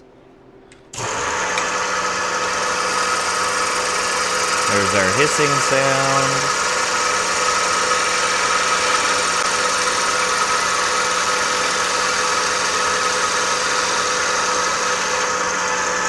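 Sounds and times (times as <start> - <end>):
lathe motor hum: 1.0 - 16.0
tool cutting spinning wood: 1.0 - 16.0.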